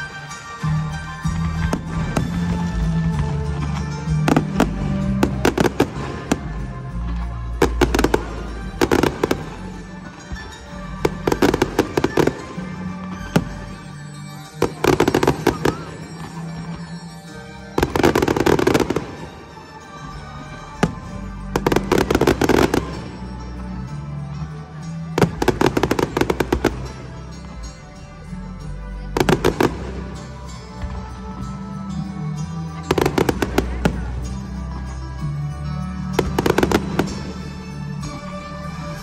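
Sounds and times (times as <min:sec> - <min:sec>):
firework bangs and crackles: 0:00.0 - 0:39.0
music soundtrack: 0:00.0 - 0:39.0.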